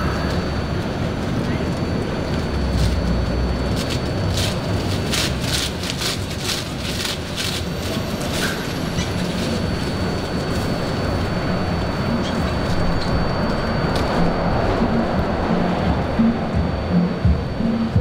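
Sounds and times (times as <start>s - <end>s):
train low rumble: 0.0s - 18.0s.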